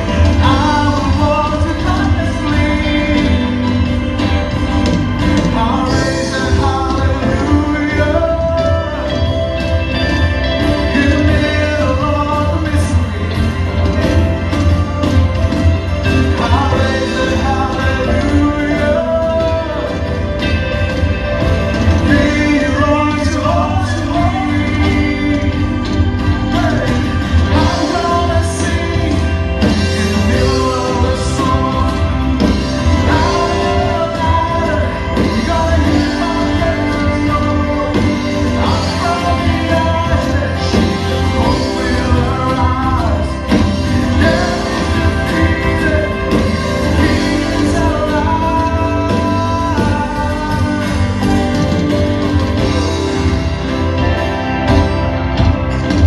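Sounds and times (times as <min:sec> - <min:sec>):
acoustic and electric guitars: 0:00.0 - 0:56.0
bass guitar: 0:00.0 - 0:56.0
drums: 0:00.0 - 0:56.0
keyboards: 0:00.0 - 0:56.0
person singing: 0:00.0 - 0:56.0.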